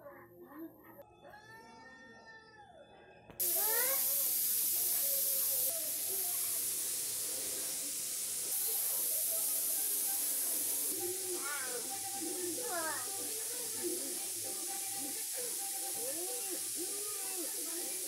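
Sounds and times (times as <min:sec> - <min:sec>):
faint voices: 0:00.0 - 0:18.0
loud steady hiss: 0:03.4 - 0:18.0.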